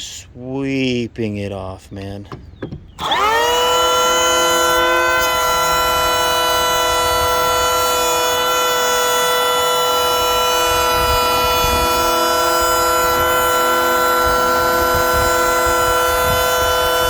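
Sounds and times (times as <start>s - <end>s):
electric hand planer whining: 2.3s - 17.0s.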